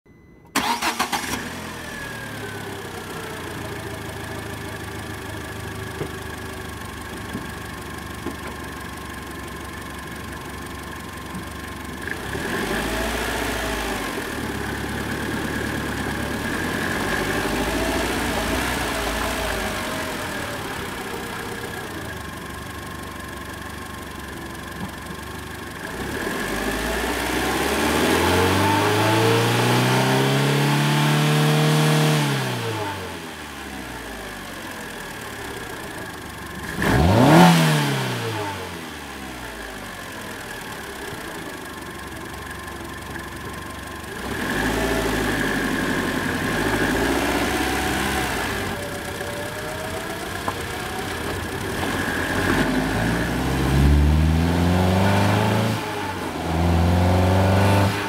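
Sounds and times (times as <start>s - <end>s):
car engine idling and revving: 0.1s - 58.0s.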